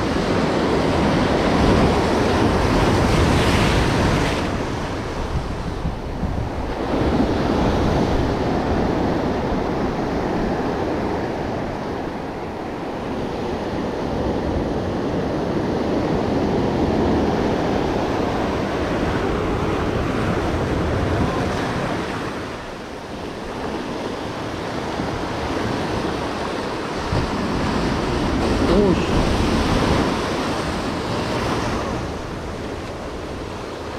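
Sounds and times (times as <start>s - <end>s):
ocean surf breaking on rocks: 0.0s - 33.9s
wind buffeting microphone: 0.0s - 33.9s.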